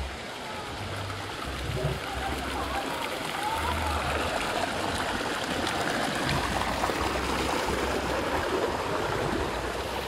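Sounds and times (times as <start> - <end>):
water gushing into pool: 0.0 - 10.0.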